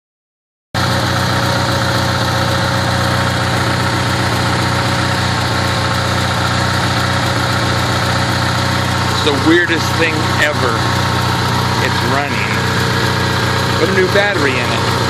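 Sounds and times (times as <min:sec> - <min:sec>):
generator running: 0:00.8 - 0:15.0.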